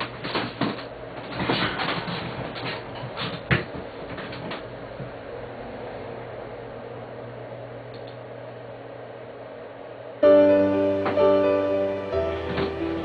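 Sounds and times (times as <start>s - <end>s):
room noise: 0.0s - 13.0s
steady electrical hum: 0.0s - 13.0s.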